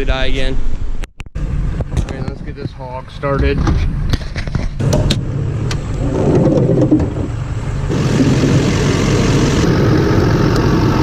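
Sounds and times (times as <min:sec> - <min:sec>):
diesel engine starting and running: 0:01.4 - 0:11.0.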